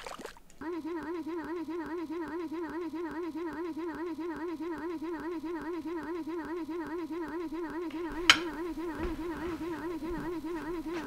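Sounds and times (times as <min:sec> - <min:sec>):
electronic warbling tone: 0:00.6 - 0:11.0.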